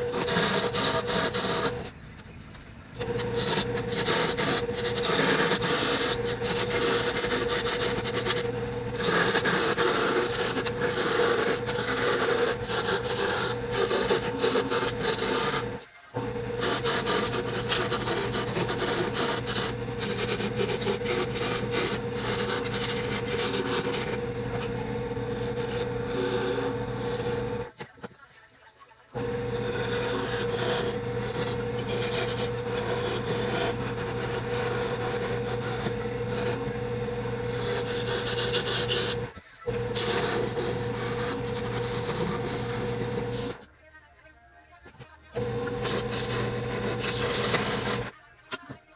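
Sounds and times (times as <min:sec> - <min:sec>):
lathe motor hum: 0:00.0 - 0:01.9, 0:03.0 - 0:27.8, 0:29.2 - 0:43.6, 0:45.4 - 0:48.1
tool scraping turning wood: 0:00.0 - 0:01.9, 0:03.0 - 0:28.0, 0:29.2 - 0:43.6, 0:45.4 - 0:48.1.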